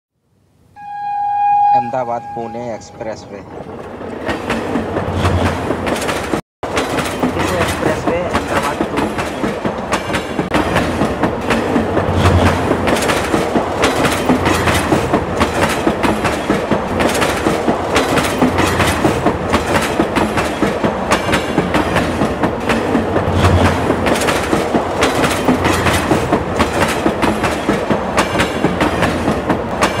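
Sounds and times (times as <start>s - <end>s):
train wheels clattering on rails: 3.7s - 30.0s.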